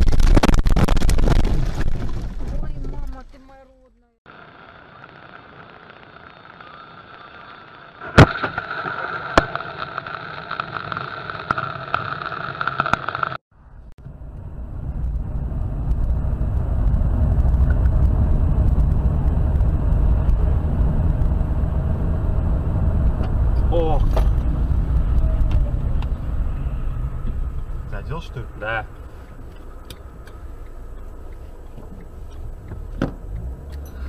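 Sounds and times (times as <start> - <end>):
car tyre and engine rumble: 0.0 - 34.0.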